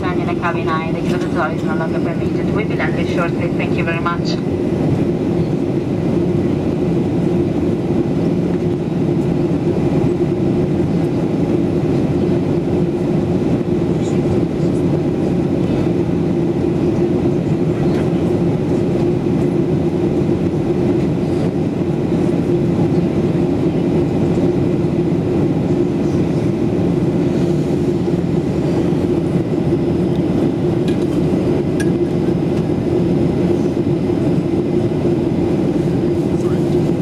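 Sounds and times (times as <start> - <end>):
airliner cabin drone: 0.0 - 37.0
strong low hum: 0.0 - 37.0.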